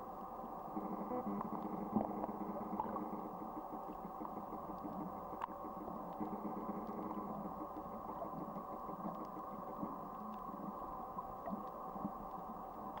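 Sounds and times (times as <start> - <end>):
mechanical hum: 0.0 - 11.4
faint clicks: 0.7 - 13.0.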